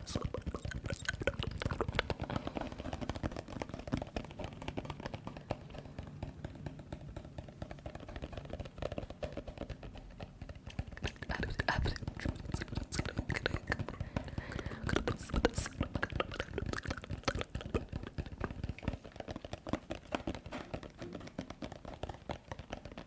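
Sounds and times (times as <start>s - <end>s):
fast irregular tapping: 0.0s - 23.0s.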